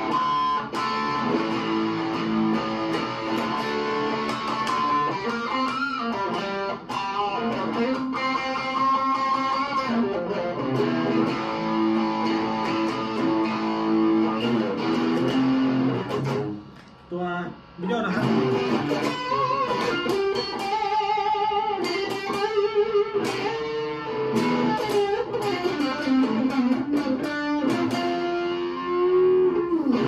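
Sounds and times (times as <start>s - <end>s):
electric guitar through an amplifier: 0.0s - 30.0s.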